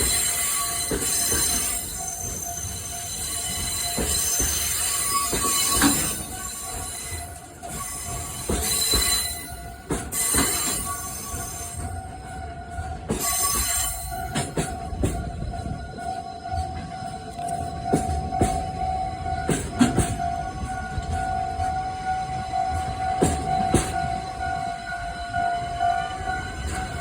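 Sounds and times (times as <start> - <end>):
steel wheels squealing on rails: 0.0 - 27.0
train wagons rolling past: 0.0 - 27.0.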